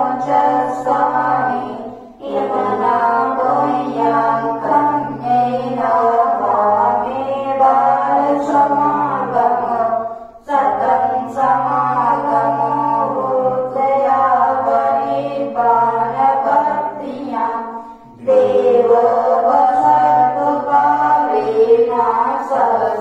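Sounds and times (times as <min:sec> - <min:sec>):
man chanting: 0:00.0 - 0:10.0, 0:10.6 - 0:17.3, 0:18.0 - 0:23.0.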